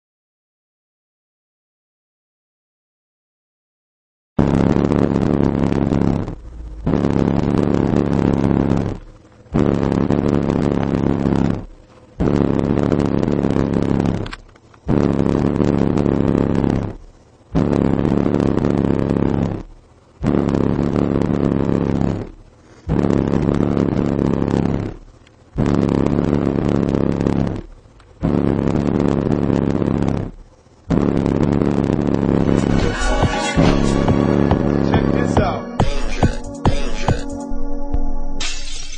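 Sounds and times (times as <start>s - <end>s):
distorted subwoofer bass notes: 4.4s - 38.9s.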